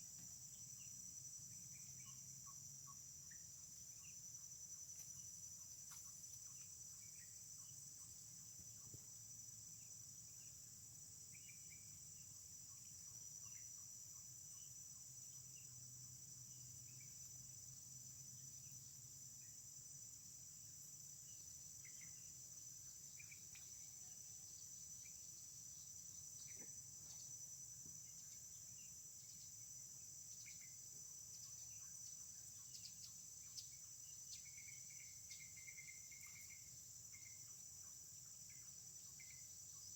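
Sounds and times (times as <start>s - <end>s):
high-pitched insect chorus: 0.0s - 39.9s
short insect chirps: 0.0s - 39.9s.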